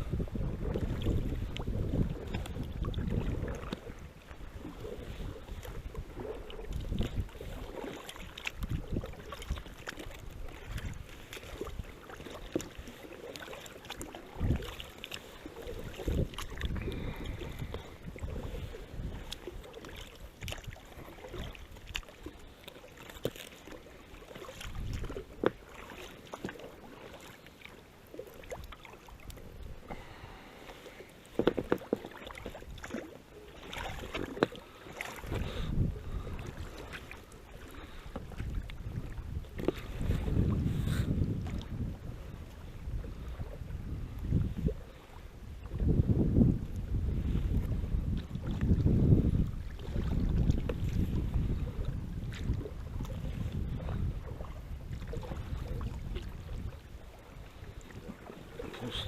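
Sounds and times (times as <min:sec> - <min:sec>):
water splashing and sloshing: 0:00.0 - 0:59.0.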